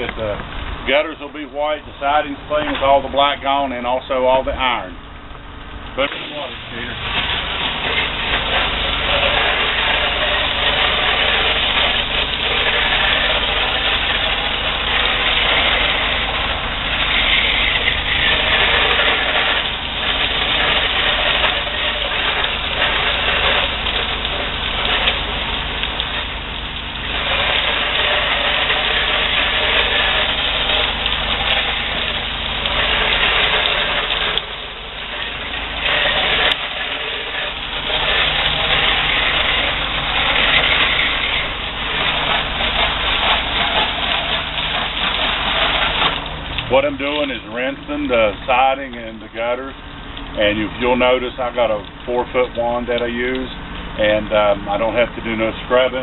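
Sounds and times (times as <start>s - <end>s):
pressure washer engine running: 0.0s - 56.0s
high-pressure water spray hissing: 5.9s - 56.0s.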